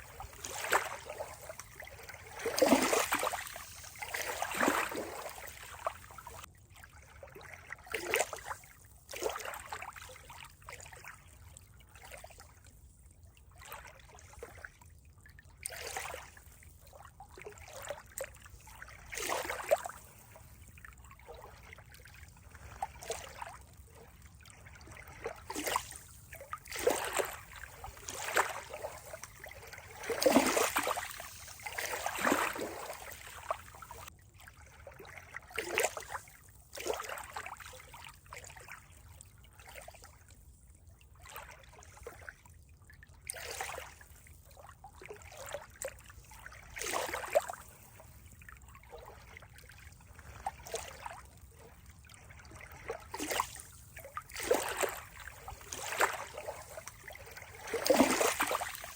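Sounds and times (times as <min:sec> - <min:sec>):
water splashing and lapping: 0:00.0 - 0:58.9.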